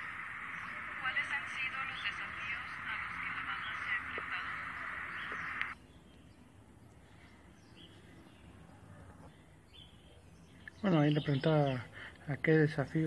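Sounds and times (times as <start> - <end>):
birds chattering: 0.0 - 13.0
faint background hiss: 0.0 - 13.0.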